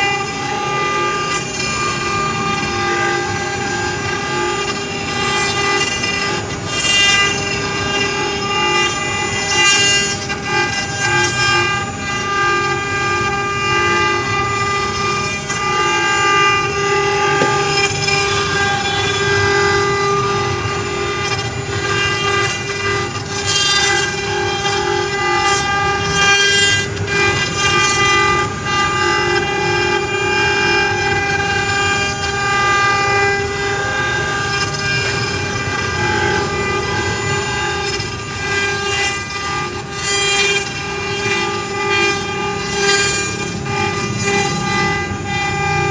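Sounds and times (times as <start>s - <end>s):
router bit rasping wood: 0.0s - 45.9s
router spindle whining: 0.0s - 45.9s.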